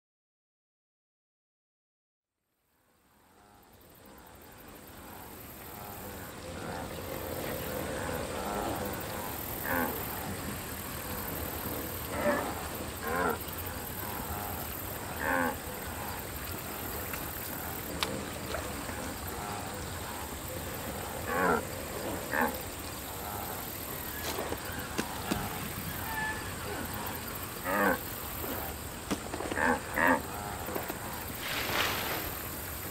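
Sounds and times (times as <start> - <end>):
steady hiss: 2.9 - 32.9.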